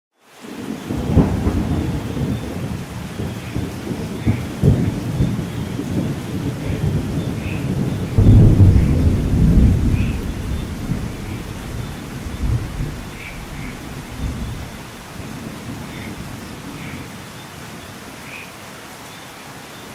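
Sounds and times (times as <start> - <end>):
steady rain: 0.1 - 19.9
rolling thunder: 0.8 - 17.1
sharp thunder cracks: 0.9 - 16.9.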